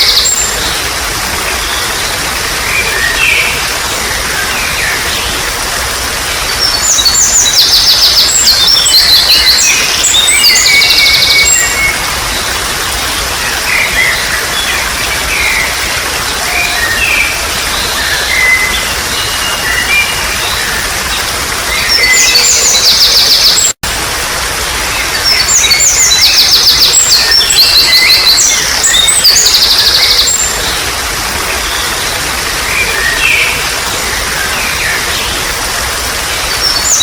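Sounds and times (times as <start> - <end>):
birds chirping: 0.0 - 24.2, 24.8 - 37.0
trickling water: 0.0 - 37.0.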